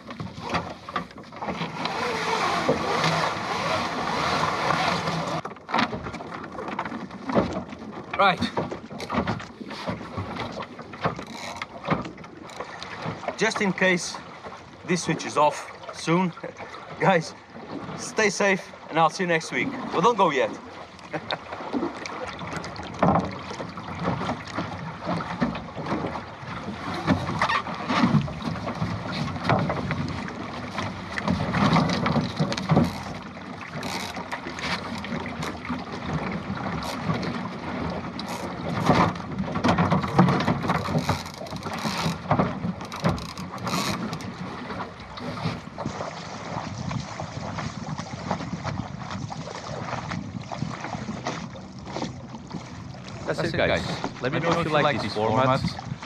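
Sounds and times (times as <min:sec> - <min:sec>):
water slapping against wooden hull: 0:00.0 - 0:56.0.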